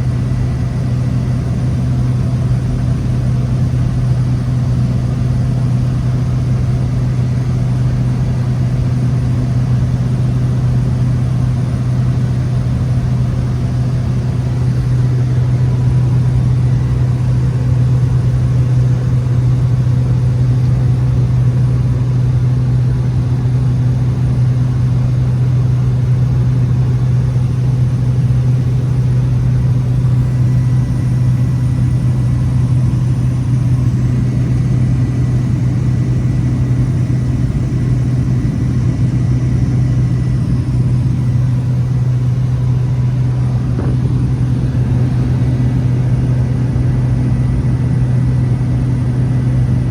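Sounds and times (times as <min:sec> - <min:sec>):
turboprop engine droning: 0:00.0 - 0:49.9.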